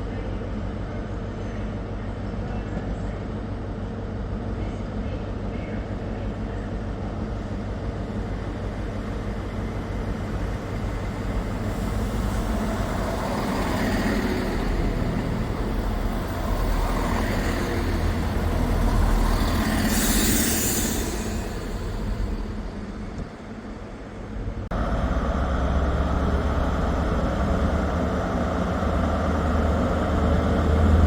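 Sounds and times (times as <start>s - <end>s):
diesel train engine hum: 0.0s - 31.0s.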